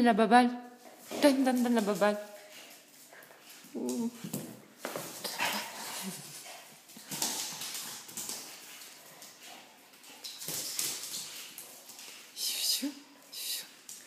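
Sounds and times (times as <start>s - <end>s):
dog claws tapping on tiles: 0.9s - 12.3s.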